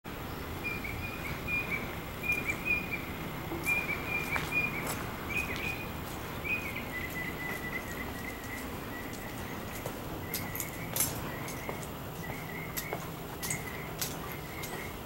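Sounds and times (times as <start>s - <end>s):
bird chirping and trilling: 0.3s - 15.0s.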